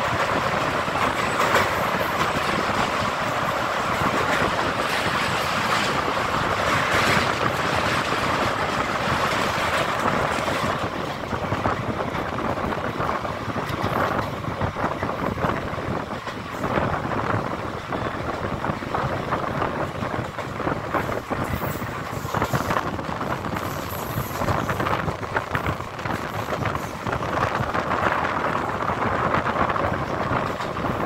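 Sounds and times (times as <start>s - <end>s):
train wheels on rails: 0.0s - 31.0s
wind buffeting microphone: 0.0s - 31.0s.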